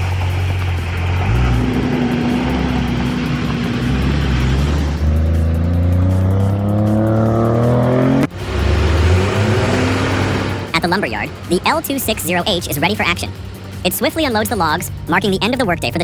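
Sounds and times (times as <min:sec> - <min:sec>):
heavy vehicle engine revving: 0:00.0 - 0:15.1.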